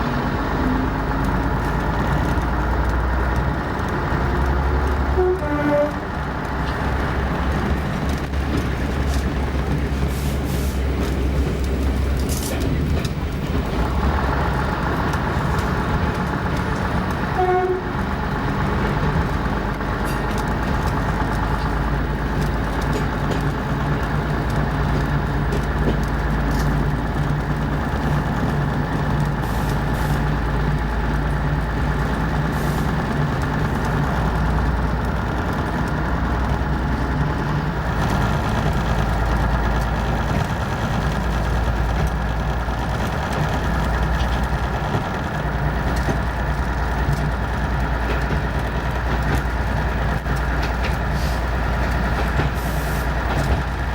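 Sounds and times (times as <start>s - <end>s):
diesel locomotive engine throbbing: 0.0s - 53.9s.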